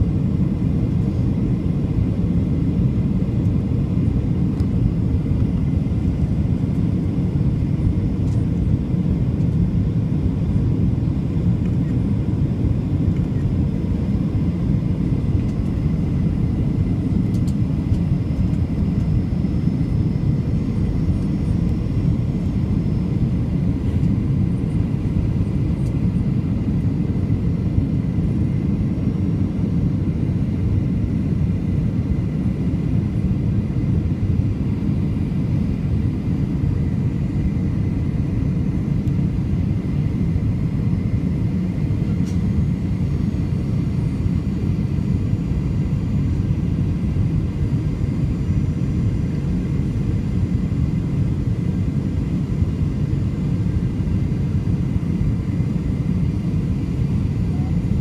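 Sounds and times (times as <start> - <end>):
airplane cabin rumble: 0.0 - 58.0
faint high whine: 0.9 - 58.0.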